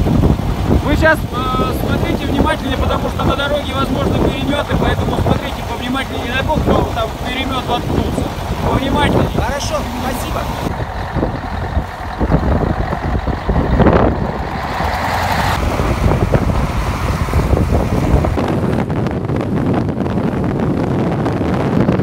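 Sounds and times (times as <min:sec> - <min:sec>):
vehicle engines rumbling: 0:00.0 - 0:22.0
wind noise: 0:00.0 - 0:22.0.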